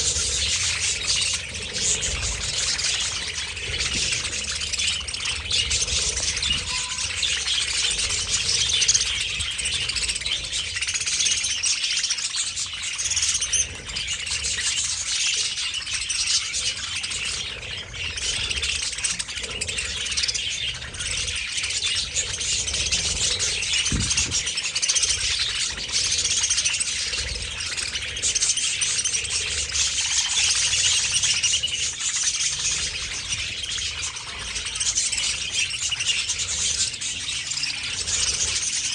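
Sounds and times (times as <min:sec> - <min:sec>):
flock of budgerigars chattering: 0:00.0 - 0:38.9.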